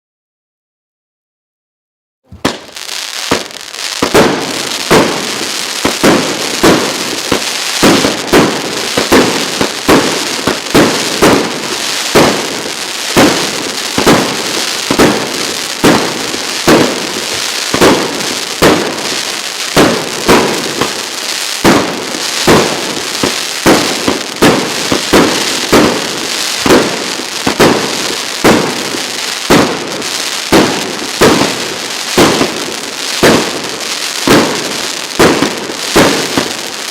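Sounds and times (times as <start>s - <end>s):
firework hiss: 2.3s - 36.9s
firework reports: 2.3s - 36.9s.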